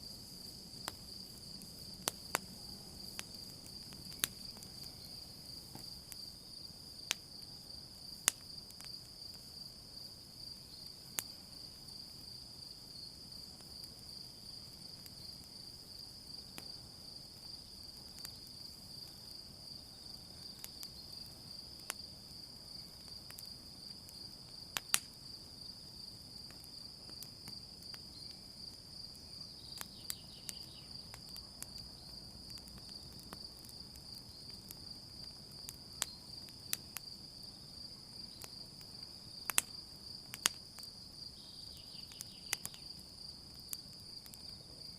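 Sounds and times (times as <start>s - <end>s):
campfire crackling and popping: 0.0s - 44.9s
crickets chirring: 0.0s - 44.9s.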